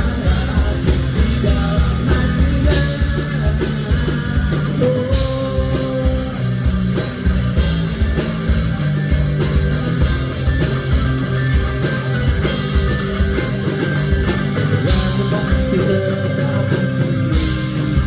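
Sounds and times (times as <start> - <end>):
bass guitar: 0.0 - 18.0
electric guitar chords: 0.0 - 18.0
steady drum beat: 0.0 - 18.0.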